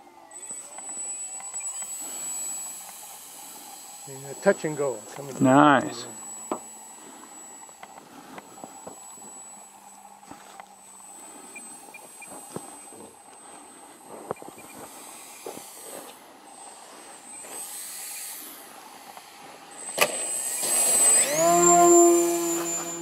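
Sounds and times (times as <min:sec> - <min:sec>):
model plane electric motor whine: 0:00.0 - 0:23.0.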